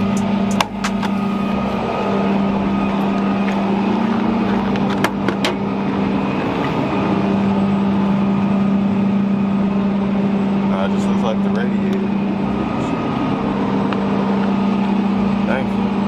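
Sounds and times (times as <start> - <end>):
tow truck engine hum: 0.0 - 16.0.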